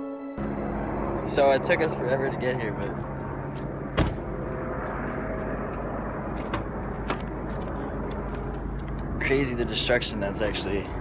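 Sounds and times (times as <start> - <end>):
car noise: 0.4 - 11.0.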